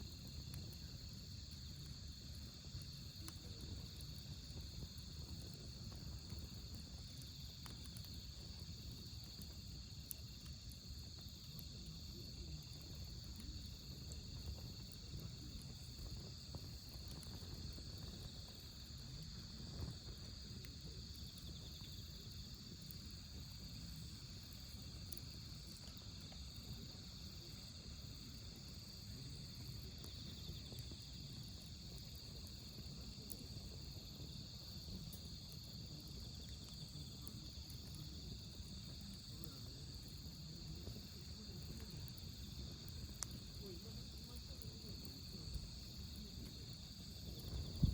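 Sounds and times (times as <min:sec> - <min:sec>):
crickets trilling: 0:00.0 - 0:47.9
wood fire crackling: 0:00.0 - 0:47.9.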